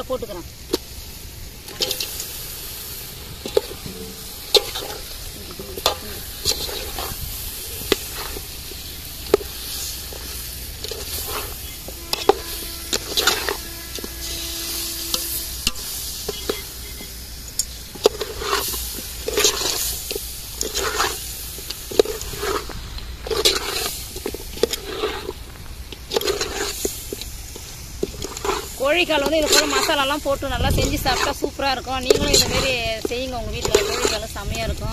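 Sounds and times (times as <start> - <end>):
food frying and sizzling: 0.0 - 34.9
metal ladle scraping a pot: 1.6 - 34.5.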